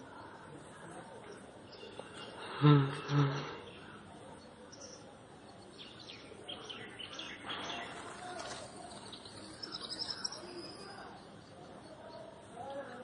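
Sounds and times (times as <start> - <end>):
birds chirping: 1.2 - 13.0.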